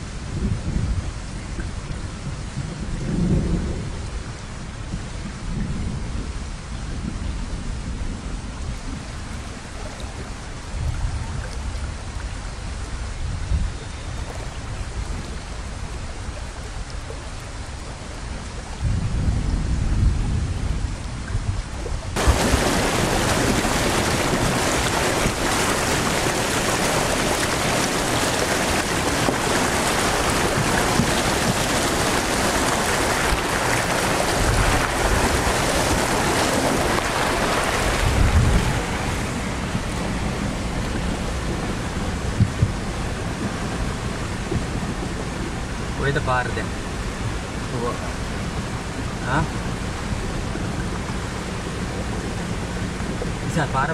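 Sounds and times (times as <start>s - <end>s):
floodwater rushing and splashing: 0.0s - 53.9s.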